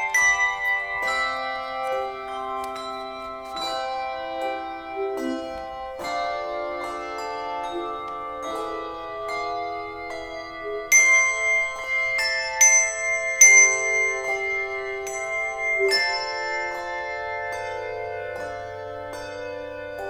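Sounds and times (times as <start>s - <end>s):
bell-like instrumental music: 0.0s - 20.0s.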